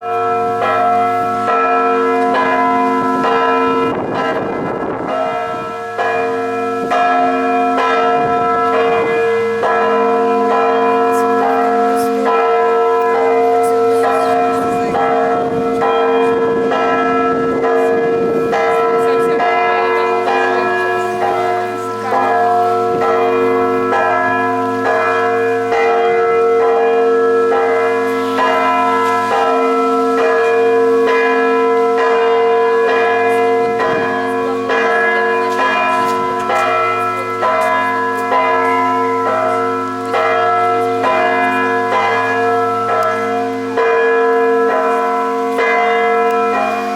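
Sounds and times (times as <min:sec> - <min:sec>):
bells ringing a peal: 0:00.0 - 0:46.9
deep hum of large bell: 0:00.0 - 0:46.9.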